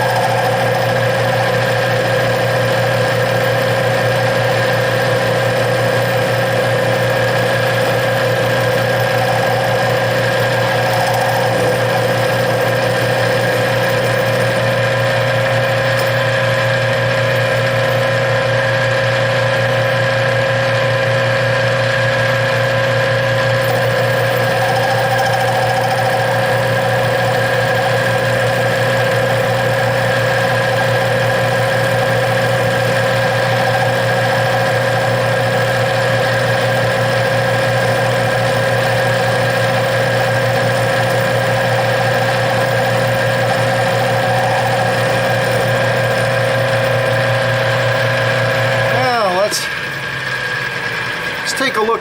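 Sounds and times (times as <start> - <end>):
metal lathe running: 0.0 - 52.0.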